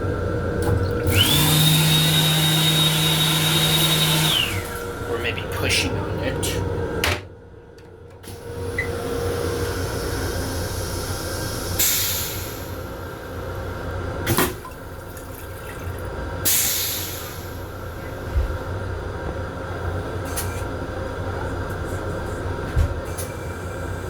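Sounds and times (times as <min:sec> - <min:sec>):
railcar running low rumble: 0:00.0 - 0:01.0, 0:04.4 - 0:14.3, 0:15.6 - 0:24.0.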